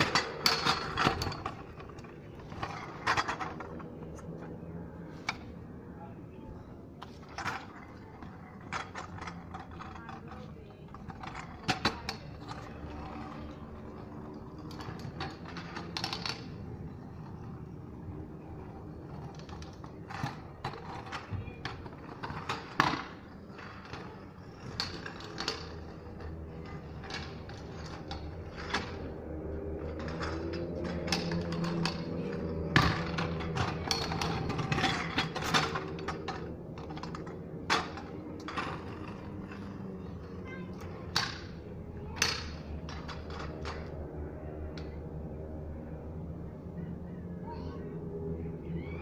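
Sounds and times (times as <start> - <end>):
scooter wheels rattling on tarmac: 0.0 - 49.0.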